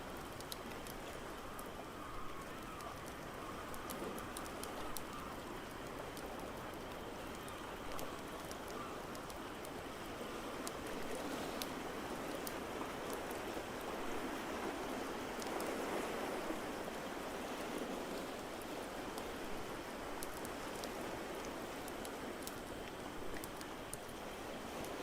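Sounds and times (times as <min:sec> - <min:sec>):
ocean waves: 0:00.0 - 0:25.0.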